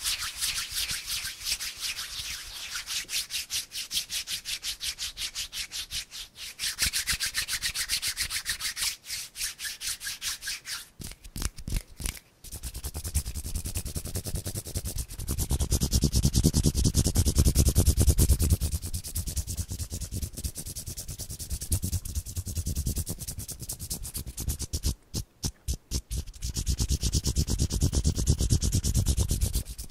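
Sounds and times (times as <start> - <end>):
palms rubbing together: 0.0 - 29.9.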